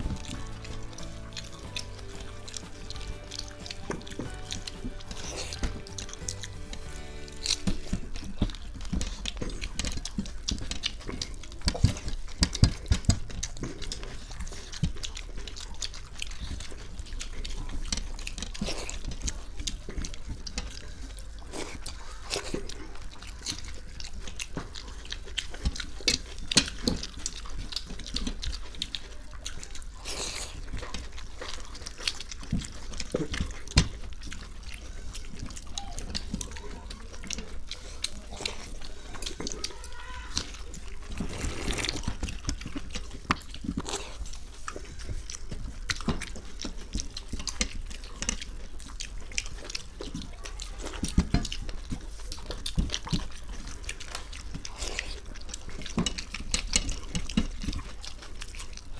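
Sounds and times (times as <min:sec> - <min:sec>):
chewing and mouth noises: 0:00.0 - 0:58.9.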